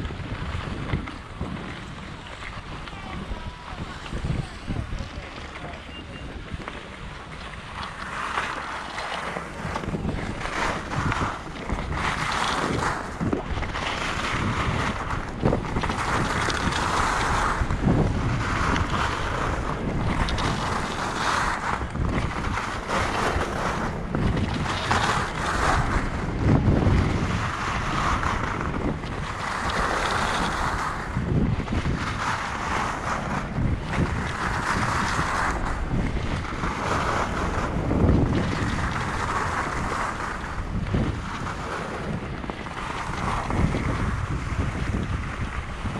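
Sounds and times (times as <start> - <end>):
wind rumbling on microphone: 0.0 - 45.9.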